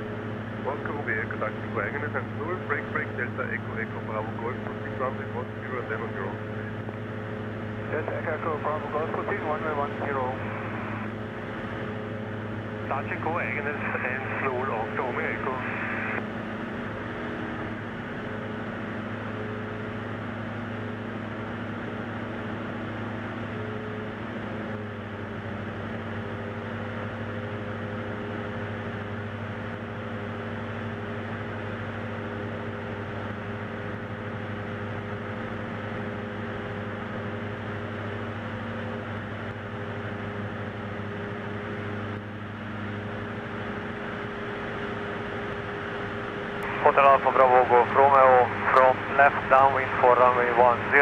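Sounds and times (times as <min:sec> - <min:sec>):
light aircraft engine droning: 0:00.0 - 0:51.0.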